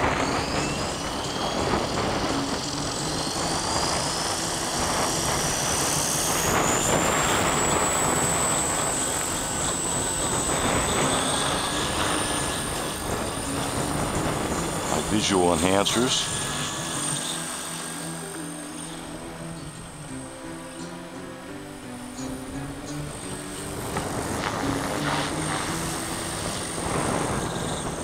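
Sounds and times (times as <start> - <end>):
helicopter motor whine: 0.0 - 28.0
wind noise on microphone: 0.0 - 28.0.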